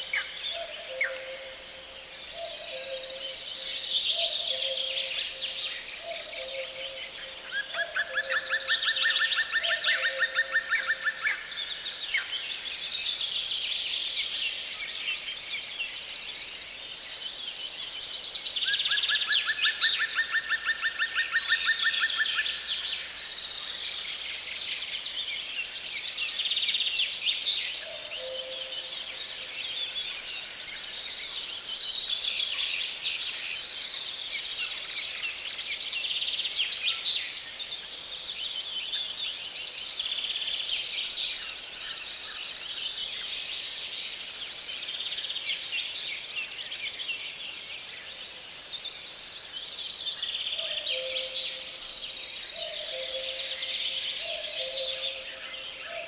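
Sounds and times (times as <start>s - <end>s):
songbirds chirping and warbling: 0.0s - 56.0s.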